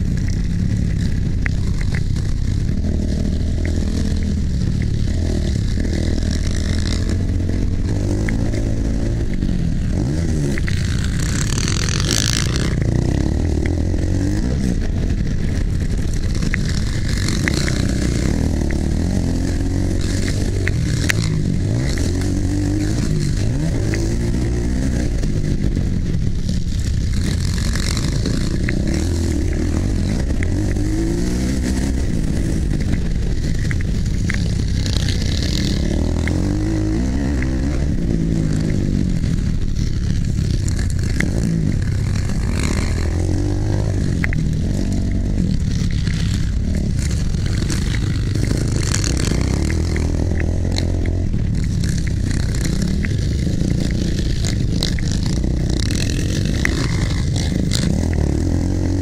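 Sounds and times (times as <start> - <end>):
bike clattering over rough ground: 0.0 - 59.0
dirt bike engine revving: 0.0 - 59.0.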